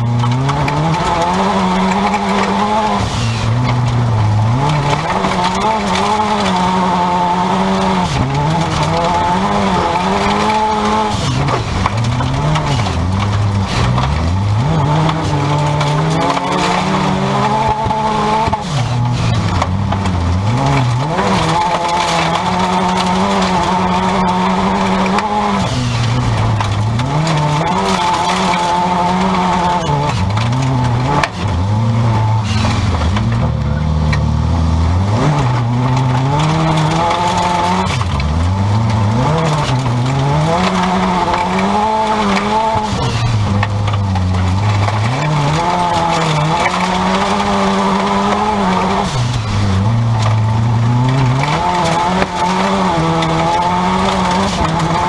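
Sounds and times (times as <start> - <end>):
car engine revving: 0.0 - 55.0
tyres running on dirt: 0.0 - 55.0.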